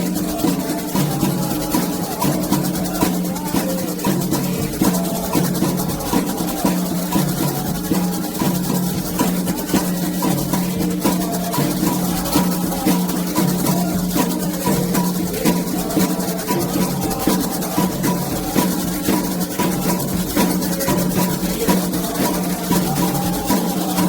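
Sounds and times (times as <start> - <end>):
hand drums in fast rhythm: 0.0 - 24.0
shaken percussion: 0.0 - 24.0
voices singing: 0.0 - 24.0.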